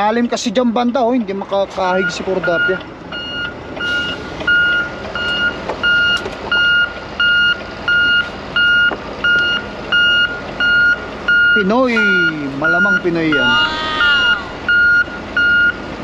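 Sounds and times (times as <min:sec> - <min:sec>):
vehicle engine running: 0:00.0 - 0:16.0
back-up alarm beeping: 0:01.9 - 0:15.9.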